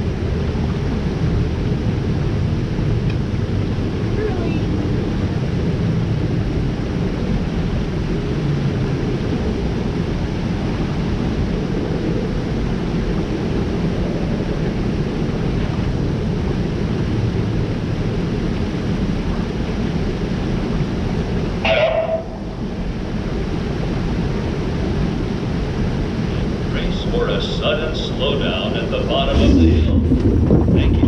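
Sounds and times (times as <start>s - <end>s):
low rumbling noise: 0.0s - 31.0s.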